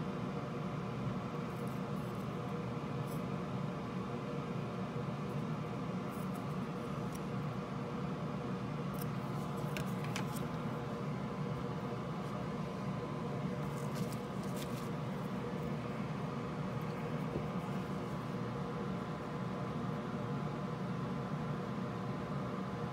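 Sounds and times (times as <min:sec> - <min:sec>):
steady background hum: 0:00.0 - 0:22.9.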